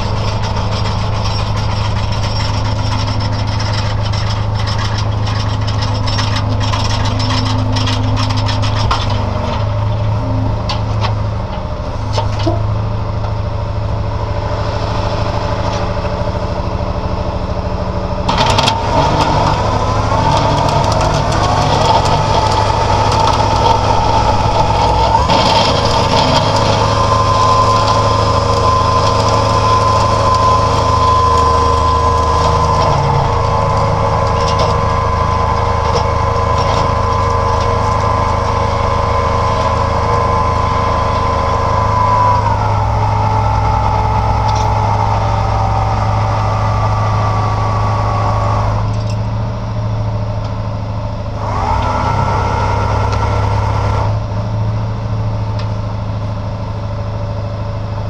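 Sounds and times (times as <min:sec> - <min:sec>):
truck engine running with whine: 0:00.0 - 0:58.0.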